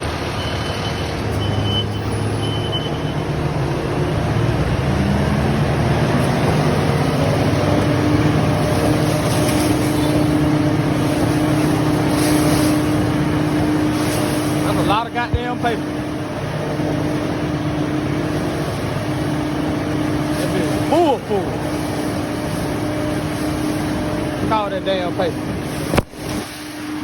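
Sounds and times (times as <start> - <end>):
steady whine: 0.0 - 27.0
truck engine and hydraulics running: 0.0 - 27.0.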